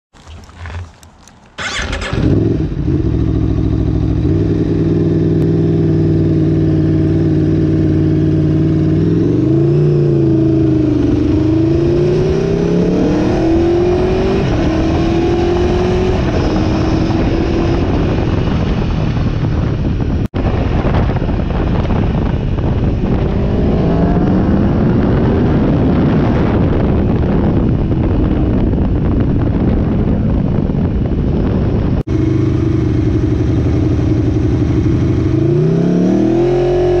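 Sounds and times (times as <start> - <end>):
motorcycle engine starting and revving: 0.4 - 37.0.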